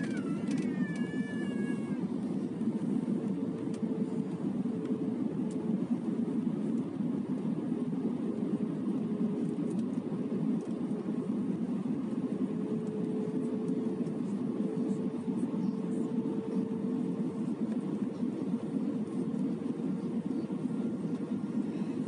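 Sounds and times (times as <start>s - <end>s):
airliner cabin roar: 0.0s - 22.0s
faint steady hum: 0.0s - 22.0s.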